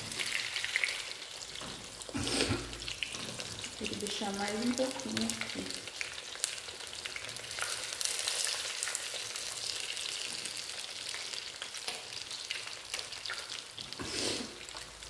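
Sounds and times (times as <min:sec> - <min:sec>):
cutlets sizzling in oil: 0:00.0 - 0:15.0.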